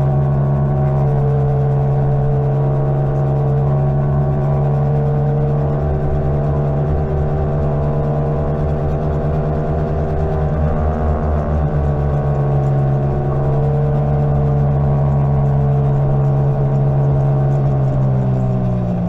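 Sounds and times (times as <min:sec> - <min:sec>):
electric motor whining hum: 0:00.0 - 0:19.0.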